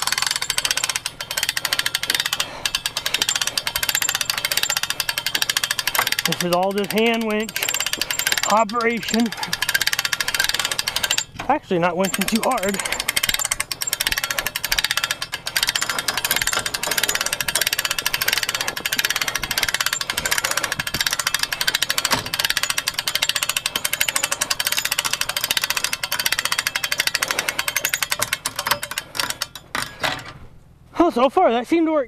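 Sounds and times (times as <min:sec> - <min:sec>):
winch ratchet clicking: 0:00.0 - 0:30.2.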